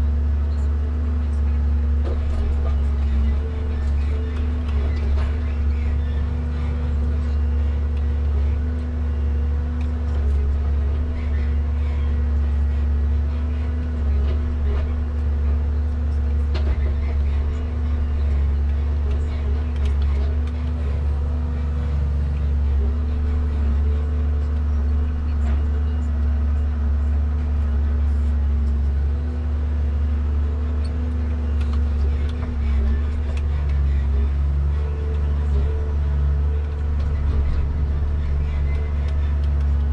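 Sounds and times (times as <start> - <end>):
deep engine hum: 0.0 - 39.9.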